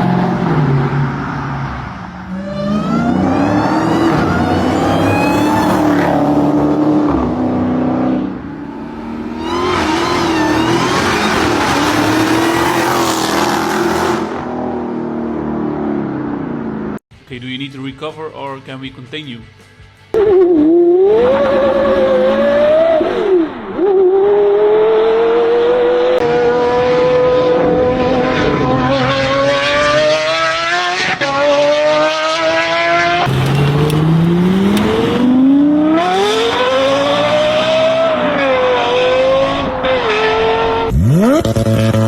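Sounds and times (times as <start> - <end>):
car engine revving: 0.0 - 17.0, 20.2 - 42.0.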